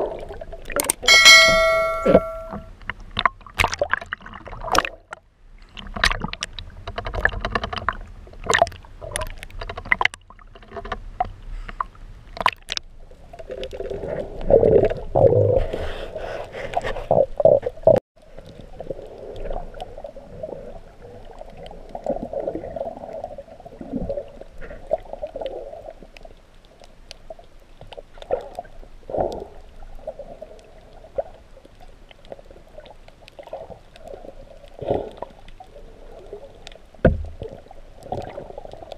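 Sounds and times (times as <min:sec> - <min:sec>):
muffled underwater water noise: 0:00.0 - 0:38.9.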